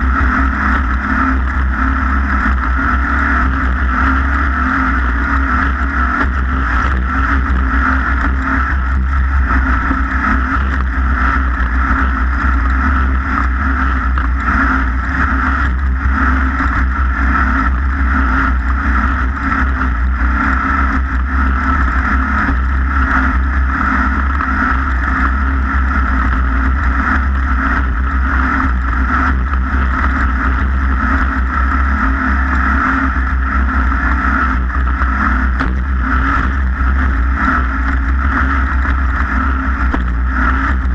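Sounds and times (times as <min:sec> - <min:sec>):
racing boat engine running: 0:00.0 - 0:40.9
wind and water rumble: 0:00.0 - 0:40.9.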